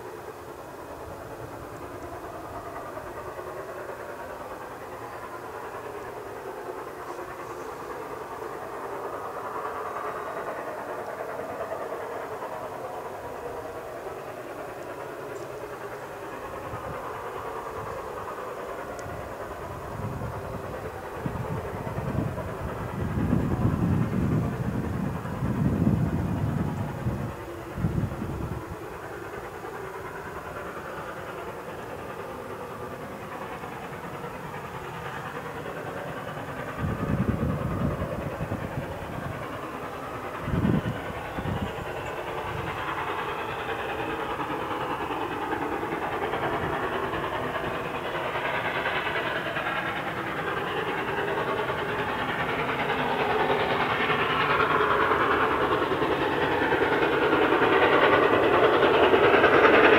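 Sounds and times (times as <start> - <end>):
steam train approaching: 0.0 - 59.9.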